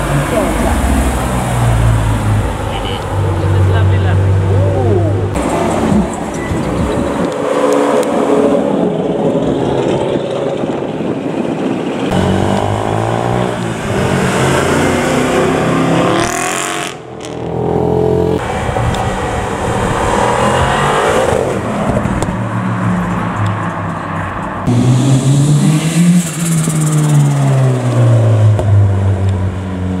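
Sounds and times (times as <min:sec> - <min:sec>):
cars revving past: 0:00.0 - 0:11.0, 0:12.0 - 0:30.0.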